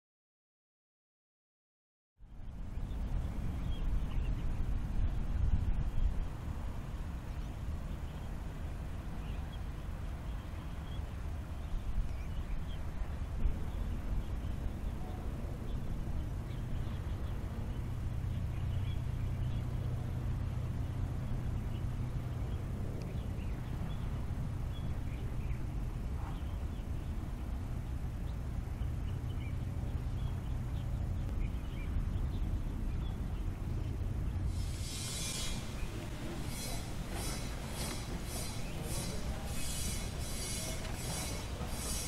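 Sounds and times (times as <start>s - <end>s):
steady low rumble: 2.2s - 42.0s.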